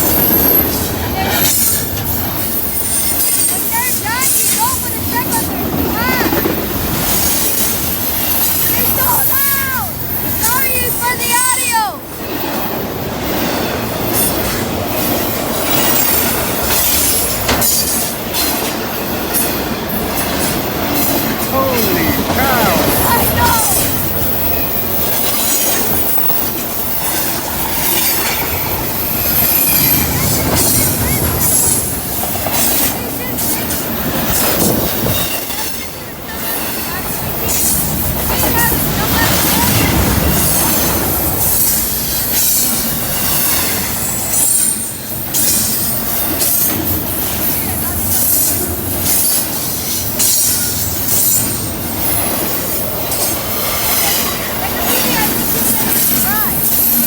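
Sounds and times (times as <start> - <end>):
high squeal of wheels on rail: 0.0 - 5.5, 6.1 - 57.0
train wheels running over rails: 0.0 - 57.0.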